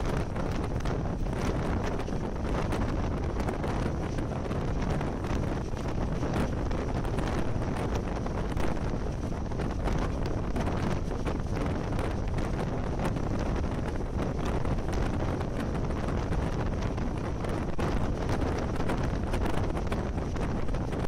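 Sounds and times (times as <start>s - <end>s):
train rumbling on track: 0.0s - 21.0s
wind rushing over microphone: 0.0s - 21.0s.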